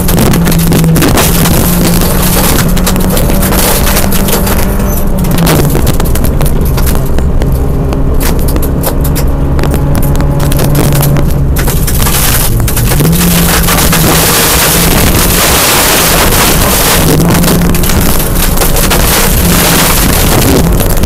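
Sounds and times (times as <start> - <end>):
rally car engine under load: 0.0 - 21.0.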